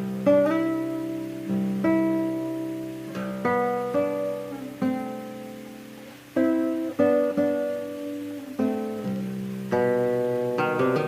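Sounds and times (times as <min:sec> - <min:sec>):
guitar plucked chords and notes: 0:00.0 - 0:11.0.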